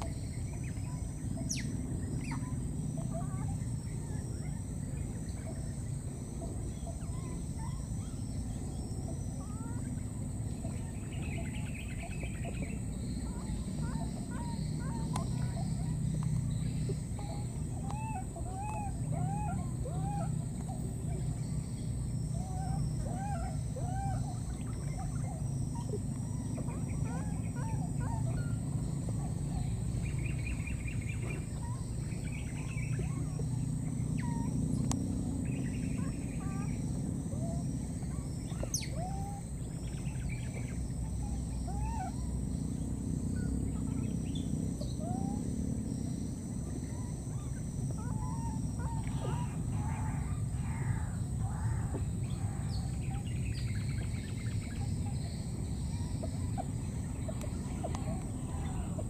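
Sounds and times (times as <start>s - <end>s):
baby monkeys coo calls: 0.0s - 59.0s
low background noise: 0.0s - 59.0s.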